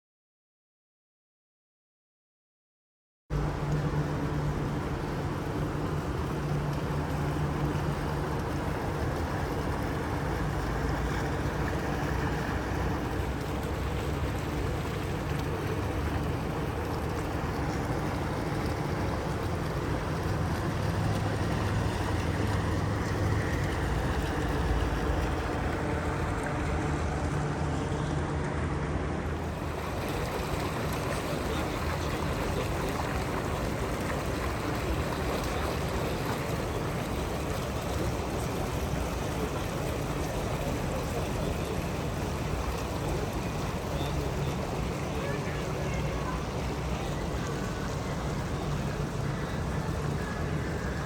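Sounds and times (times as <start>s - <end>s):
rushing outdoor background noise: 3.3s - 51.0s.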